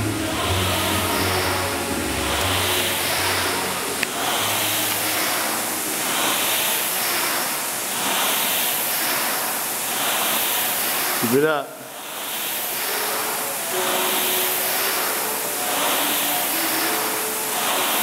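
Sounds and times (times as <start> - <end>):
rowing machine fan whooshing: 0.0 - 18.0.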